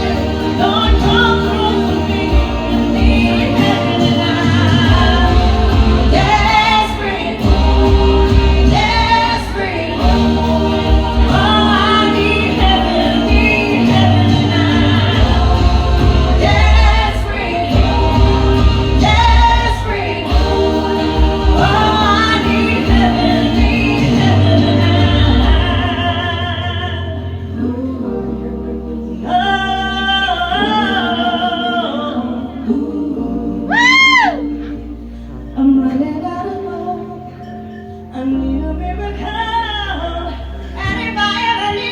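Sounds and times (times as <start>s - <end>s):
song with singing: 0.0s - 41.9s.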